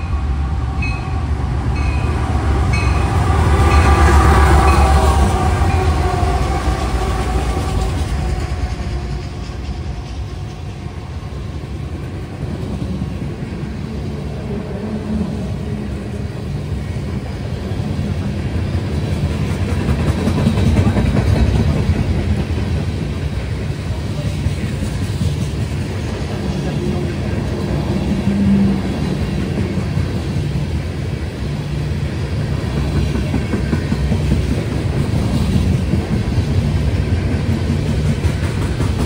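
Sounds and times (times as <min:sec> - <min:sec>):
diesel locomotive engine: 0:00.0 - 0:39.0
train wheels rumbling on rails: 0:00.0 - 0:39.0.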